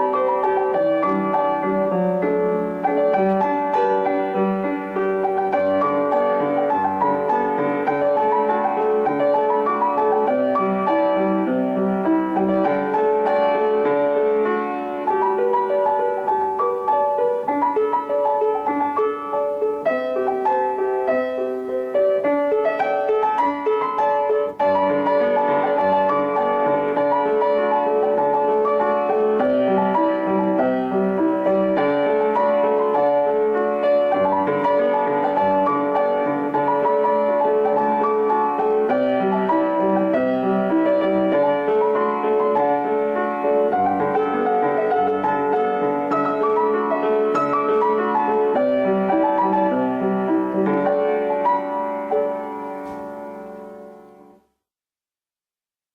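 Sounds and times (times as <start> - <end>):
piano music: 0.0 - 54.6.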